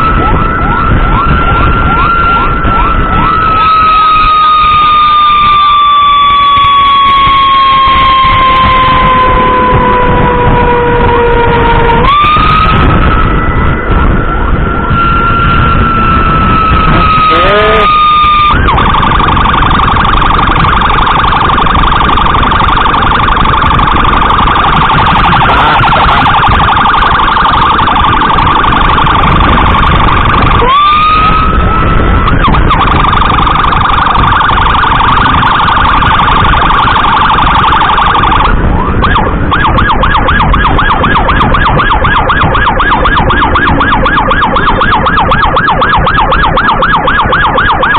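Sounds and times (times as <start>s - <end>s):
electronic emergency siren: 0.0s - 47.9s.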